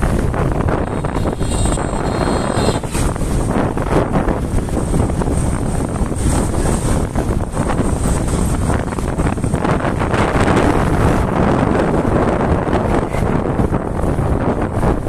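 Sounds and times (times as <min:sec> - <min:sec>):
motorcycle running: 0:00.0 - 0:15.0
road noise: 0:00.0 - 0:15.0
wind rushing over microphone: 0:00.0 - 0:15.0.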